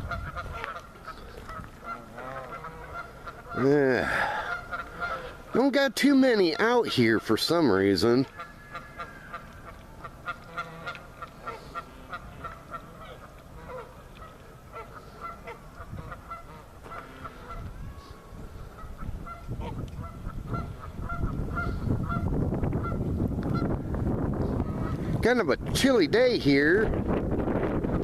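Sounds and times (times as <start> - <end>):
geese honking: 0.0 - 23.8, 24.4 - 25.2.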